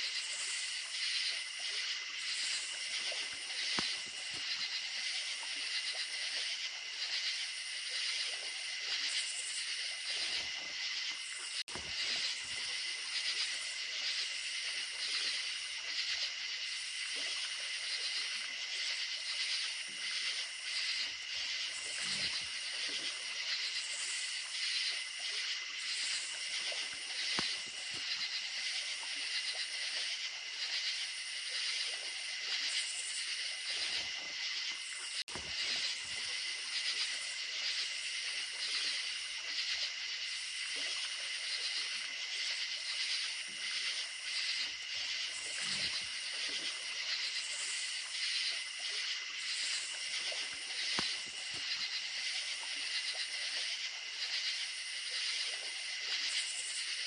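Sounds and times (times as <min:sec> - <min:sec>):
creek water running: 0:00.0 - 0:57.0
crickets chirping: 0:00.0 - 0:57.0.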